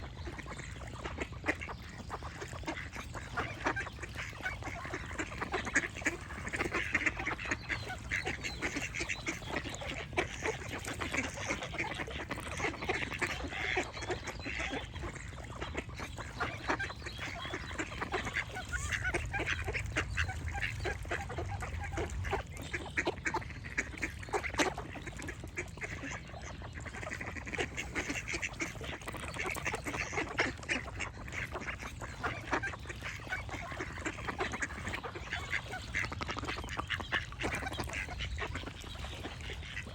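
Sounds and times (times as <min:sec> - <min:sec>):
ducks quacking: 0:00.0 - 0:39.9
small birds chirping: 0:00.2 - 0:39.9.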